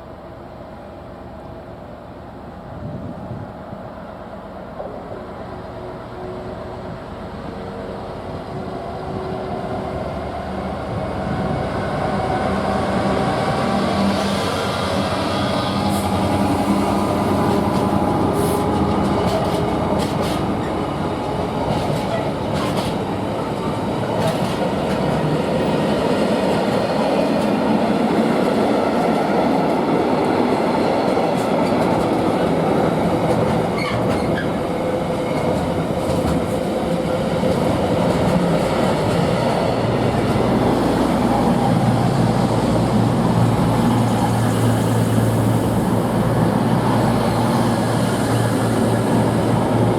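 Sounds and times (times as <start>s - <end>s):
train wheels rumbling on rails: 1.5s - 49.9s.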